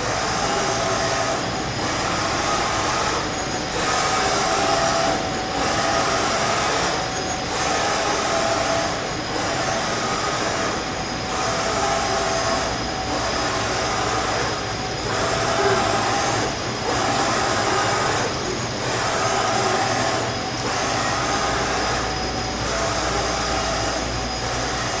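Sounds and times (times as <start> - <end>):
lathe running with hiss and hum: 0.0 - 25.0.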